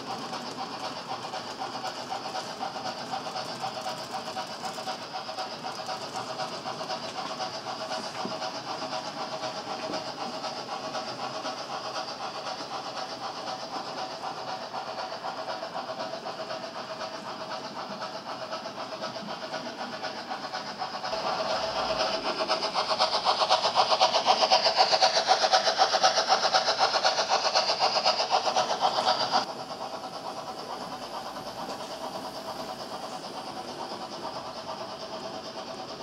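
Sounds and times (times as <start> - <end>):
model steam locomotive clatter: 0.0 - 36.0
model train wheels rattling: 0.0 - 36.0.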